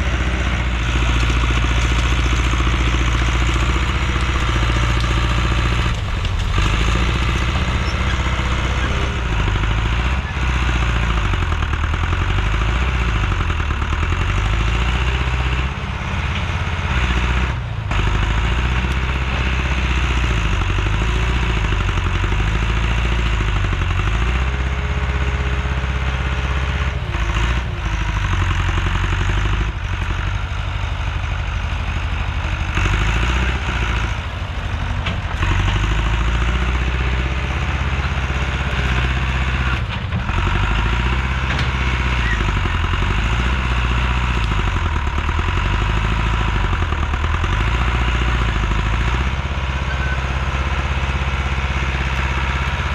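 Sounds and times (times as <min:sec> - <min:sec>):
heavy equipment engine running: 0:00.0 - 0:52.9.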